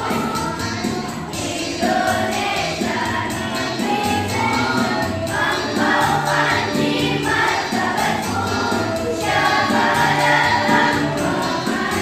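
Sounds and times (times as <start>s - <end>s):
girls' choir singing: 0.0s - 12.0s.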